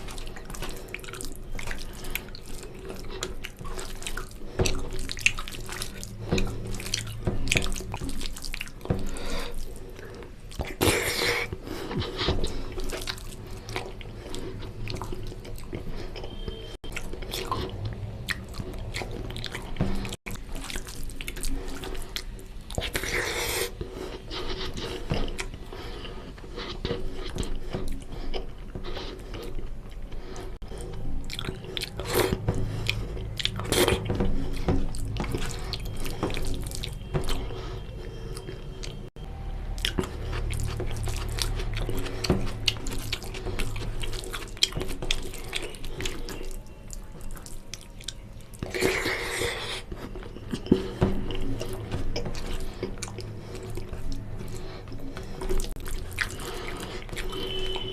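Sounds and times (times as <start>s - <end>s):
wet chewing and lip-smacking: 0.0s - 57.9s.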